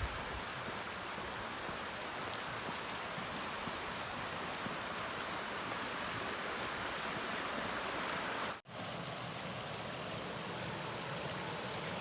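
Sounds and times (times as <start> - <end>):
small waterfall: 0.0 - 12.0
stream rushing: 0.0 - 12.0.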